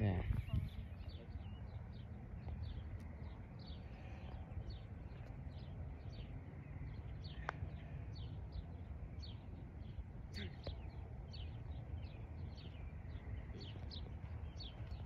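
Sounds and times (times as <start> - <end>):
bird chirping: 0.0 - 15.0
wind rumble on microphone: 0.0 - 15.0.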